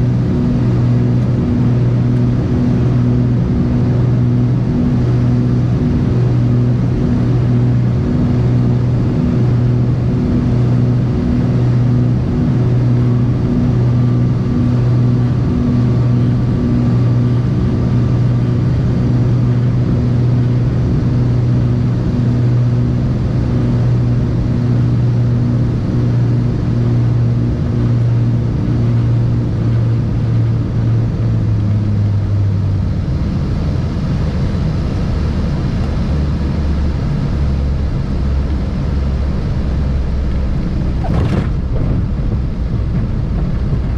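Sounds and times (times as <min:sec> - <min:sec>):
propeller aircraft engines droning: 0:00.0 - 0:43.9.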